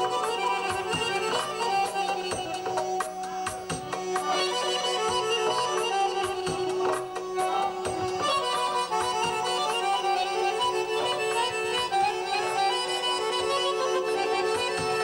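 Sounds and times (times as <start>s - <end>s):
button accordions playing a tune: 0.0s - 15.0s.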